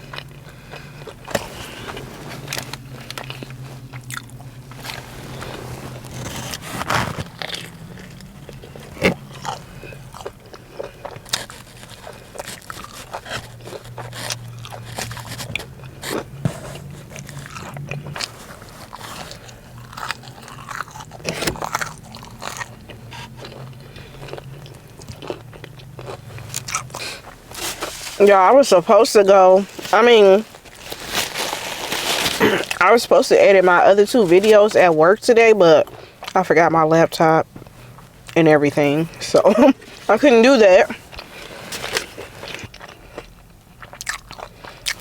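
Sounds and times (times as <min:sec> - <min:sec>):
chewing crispy chicken: 0:00.0 - 0:33.0, 0:35.8 - 0:36.5, 0:39.1 - 0:45.0
steady low hum: 0:00.0 - 0:45.0.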